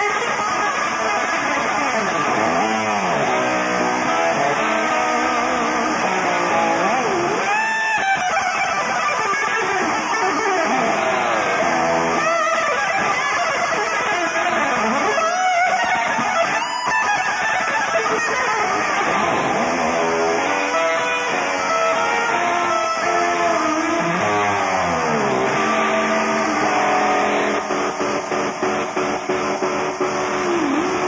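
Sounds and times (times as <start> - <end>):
electric guitar solo: 0.0 - 31.0
rock band playing: 0.0 - 31.0.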